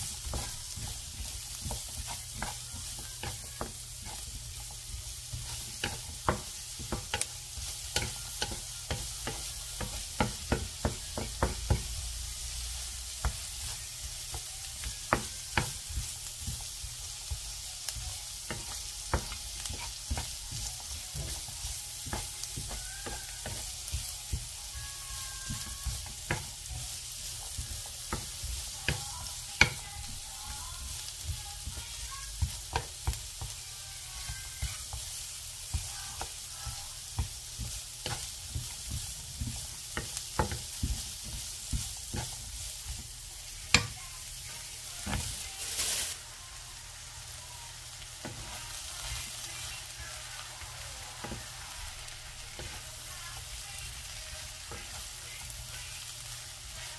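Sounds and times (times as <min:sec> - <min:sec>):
vegetables sizzling in oil: 0:00.0 - 0:56.9.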